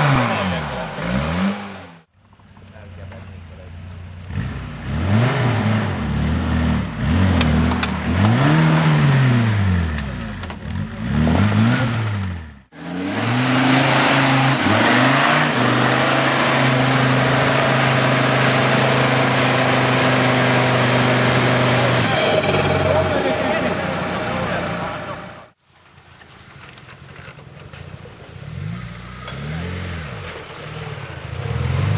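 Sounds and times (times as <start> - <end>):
off-road engine revving: 0.0 - 2.1, 2.7 - 25.6, 28.3 - 31.9.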